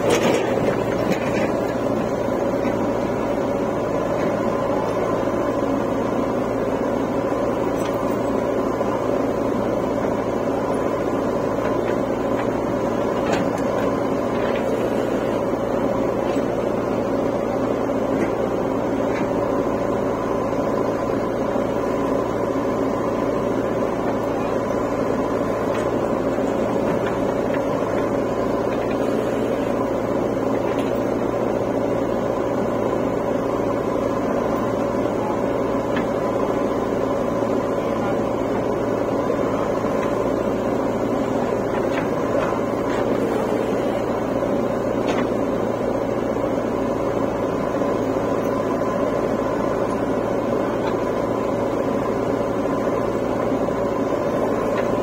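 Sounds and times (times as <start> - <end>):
backhoe digging soil: 0.0 - 55.0
diesel engines running: 0.0 - 55.0.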